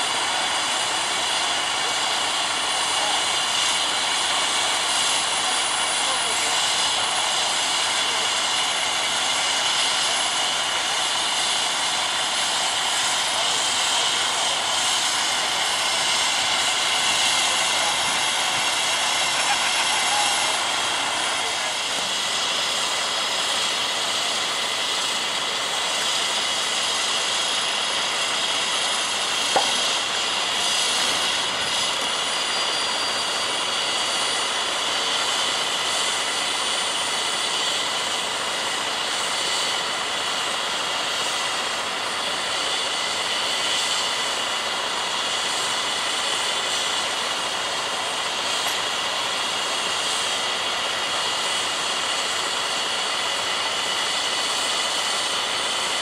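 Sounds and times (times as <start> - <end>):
machinery whine and hiss: 0.0 - 56.0.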